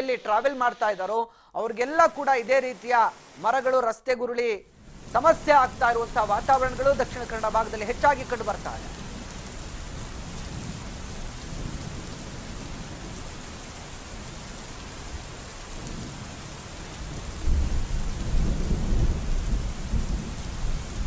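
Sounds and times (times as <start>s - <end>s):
heavy rain falling: 1.7s - 3.7s, 4.8s - 21.0s.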